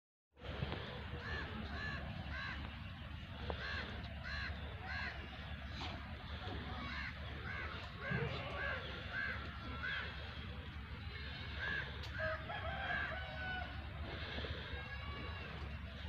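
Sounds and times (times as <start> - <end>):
low steady rumble: 0.4 - 16.0
bird calling: 0.8 - 16.0.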